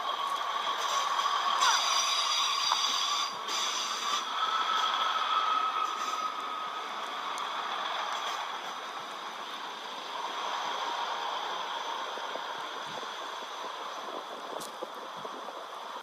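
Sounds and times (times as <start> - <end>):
train engine whine: 0.0 - 16.0.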